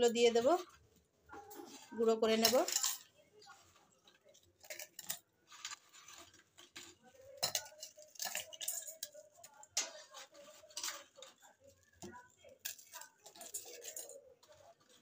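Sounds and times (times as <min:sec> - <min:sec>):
biscuits clinking against metal jar: 0:00.0 - 0:15.0.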